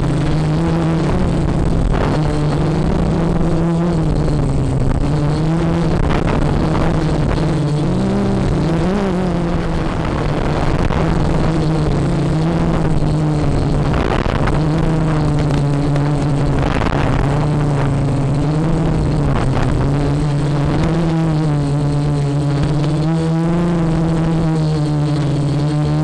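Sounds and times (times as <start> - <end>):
drone propellers whirring: 0.0 - 26.0
strong wind: 0.0 - 26.0.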